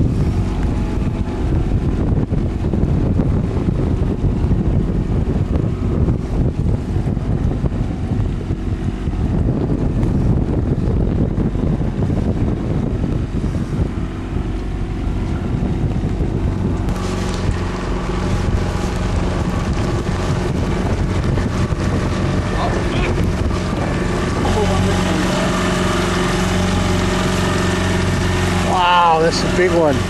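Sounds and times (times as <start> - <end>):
boat motor running: 0.0 - 30.0
high steady whine: 0.0 - 30.0
wind buffeting microphone: 0.0 - 30.0.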